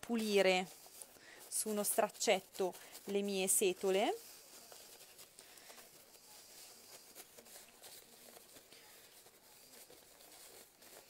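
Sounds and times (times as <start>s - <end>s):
brush bristles rubbing on cloth: 0.0s - 11.0s.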